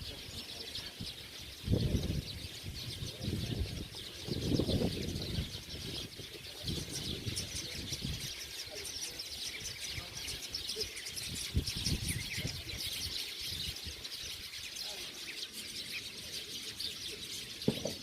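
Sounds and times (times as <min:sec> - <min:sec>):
many small birds chirping: 0:00.0 - 0:18.0.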